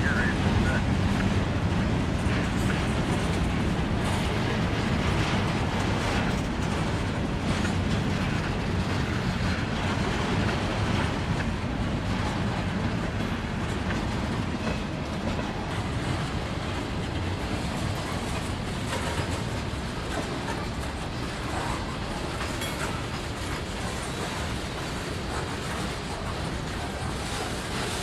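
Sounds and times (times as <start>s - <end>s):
freight train cars rolling past: 0.0s - 28.0s.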